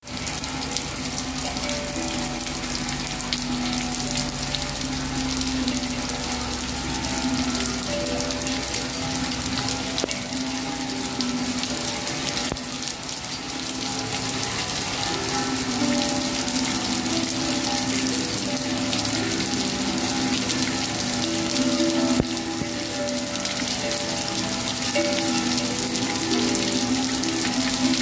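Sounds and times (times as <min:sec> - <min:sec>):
rain hissing: 0:00.0 - 0:28.0
steel tongue drum ringing: 0:00.0 - 0:28.0.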